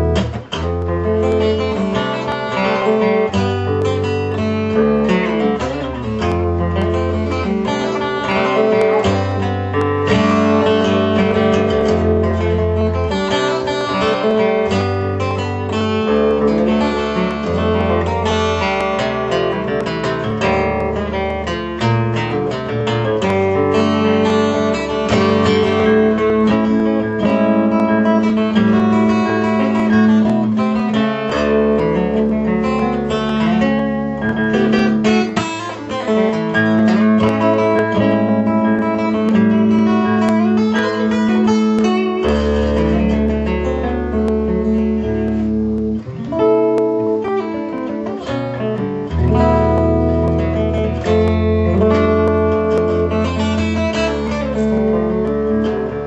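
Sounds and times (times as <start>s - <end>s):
fingerstyle acoustic guitar: 0.0s - 56.0s.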